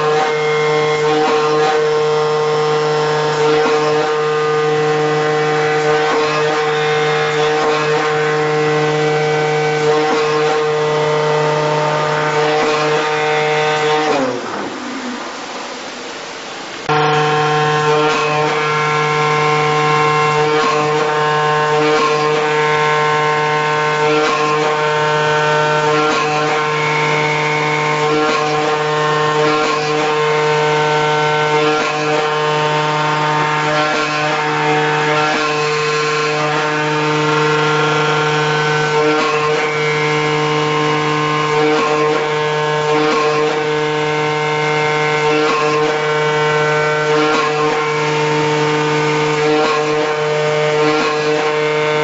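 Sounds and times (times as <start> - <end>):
cutting machine whine: 0.0 - 52.0.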